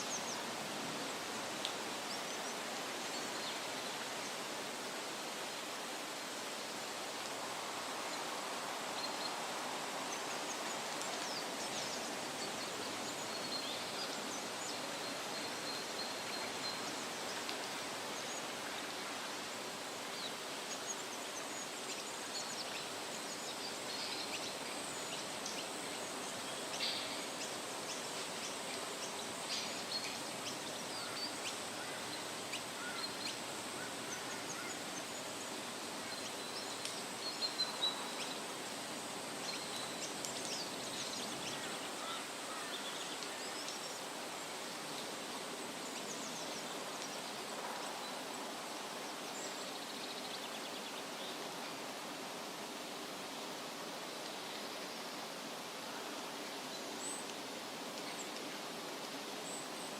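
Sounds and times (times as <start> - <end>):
wind rustling leaves: 0.0 - 59.9.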